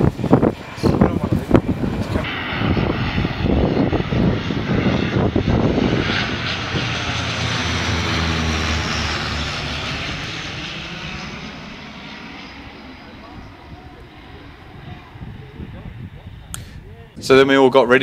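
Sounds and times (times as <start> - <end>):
propeller plane flying overhead: 0.0 - 18.0.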